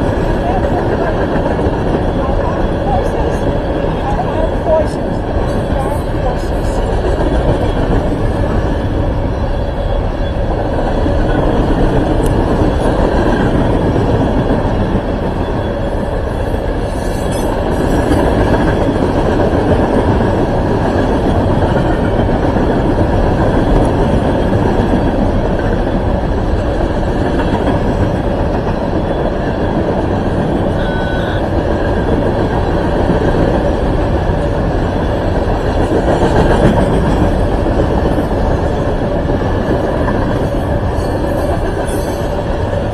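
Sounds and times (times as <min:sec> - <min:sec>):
freight train rolling past: 0:00.0 - 0:42.9.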